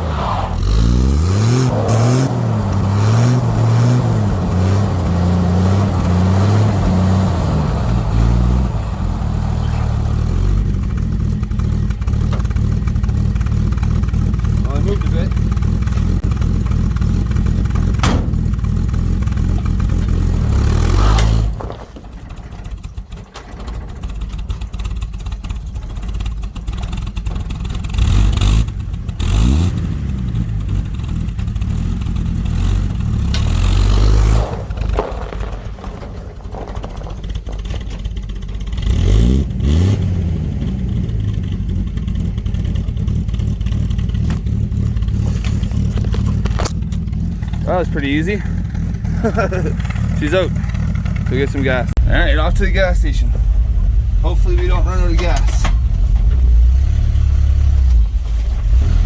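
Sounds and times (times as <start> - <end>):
truck engine revving under load: 0.0 - 25.2, 25.9 - 59.0.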